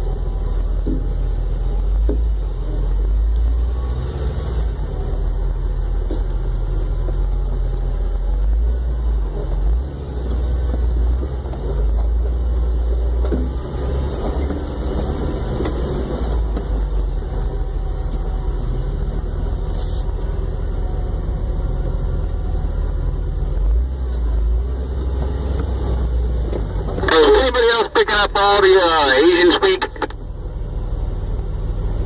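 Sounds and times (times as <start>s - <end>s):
vehicle engine low rumble: 0.0s - 32.0s.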